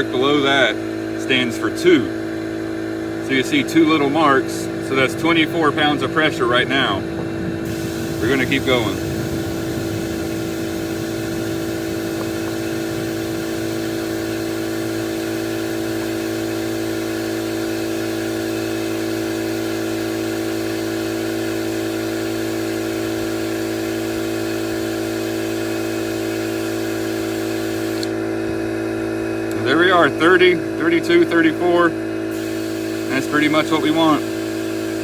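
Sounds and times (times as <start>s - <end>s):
air compressor humming: 0.0s - 35.0s
air hissing into tire: 1.9s - 28.2s, 32.3s - 35.0s.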